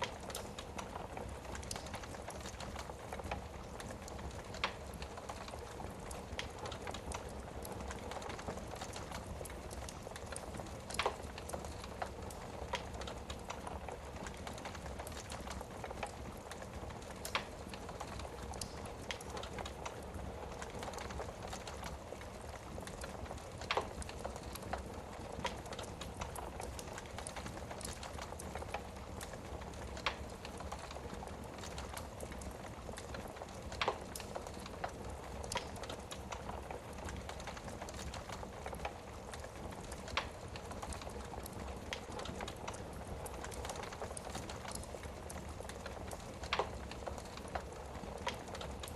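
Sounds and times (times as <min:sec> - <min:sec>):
fire crackles and pops: 0:00.0 - 0:48.9
wood fire hissing: 0:00.0 - 0:48.9.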